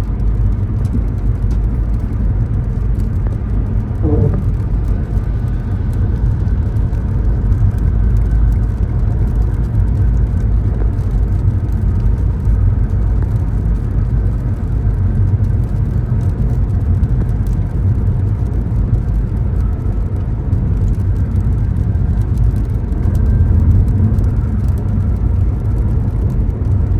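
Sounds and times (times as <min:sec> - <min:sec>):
car engine rumble: 0:00.0 - 0:26.9
road noise: 0:00.0 - 0:26.9.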